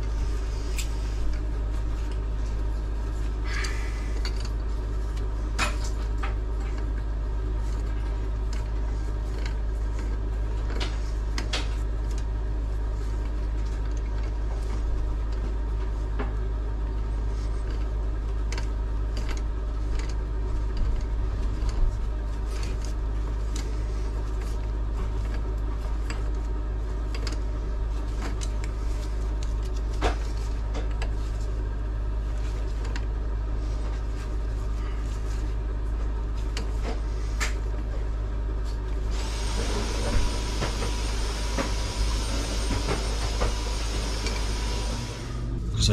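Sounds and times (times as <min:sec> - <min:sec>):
machine hum with low drone: 0:00.0 - 0:45.9.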